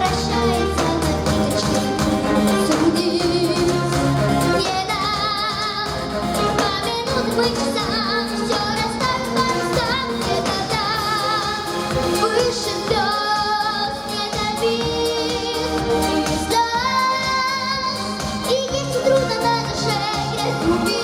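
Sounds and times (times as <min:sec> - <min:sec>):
backing track music: 0:00.0 - 0:21.0
woman singing pop song: 0:00.0 - 0:21.0.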